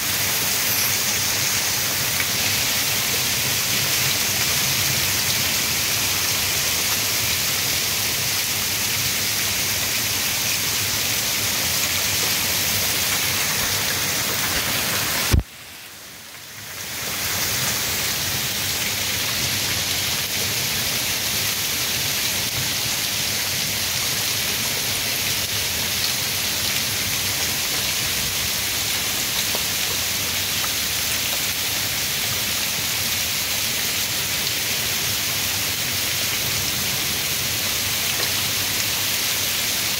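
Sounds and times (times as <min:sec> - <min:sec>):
heavy rain pouring off roof: 0:00.0 - 0:39.9.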